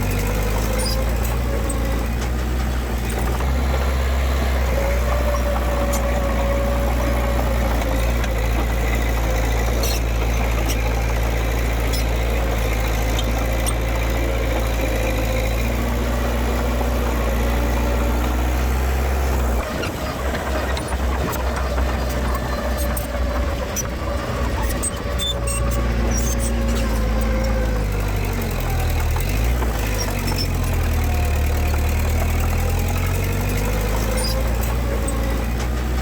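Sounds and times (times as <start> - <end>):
diesel engine droning: 0.0 - 36.0
rough uneven rumble: 0.0 - 36.0.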